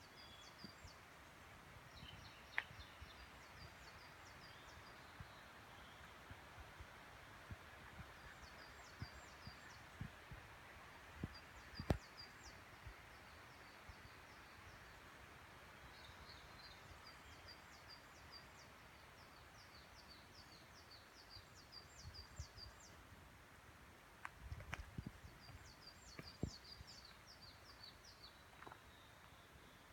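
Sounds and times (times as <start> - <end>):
small forest birds singing: 0.0 - 29.9.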